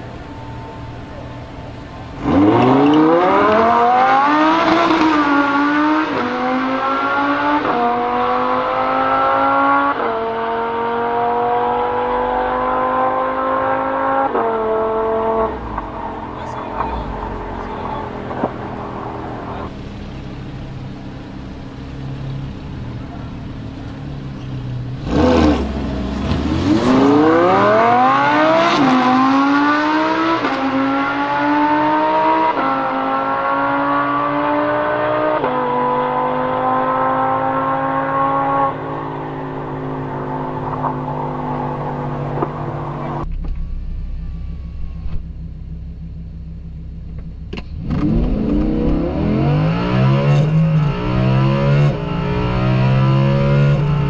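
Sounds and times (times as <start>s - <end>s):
sports car engine accelerating: 0.0s - 54.0s.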